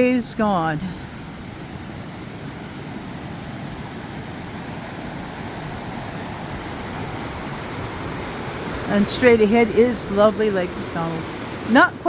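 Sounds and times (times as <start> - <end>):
rushing creek water roar: 0.0 - 12.0.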